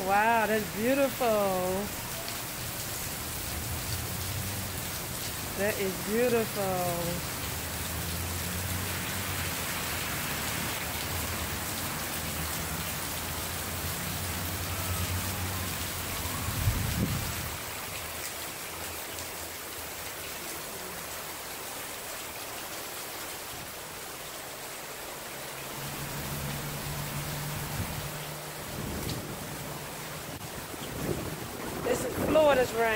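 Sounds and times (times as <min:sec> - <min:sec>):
heavy rain on pavement: 0:00.0 - 0:32.9.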